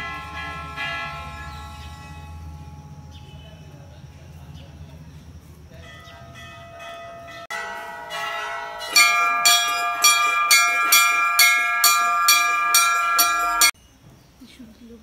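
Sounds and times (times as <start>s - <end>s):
brass temple bells clanging: 0.0s - 4.2s, 5.8s - 13.8s.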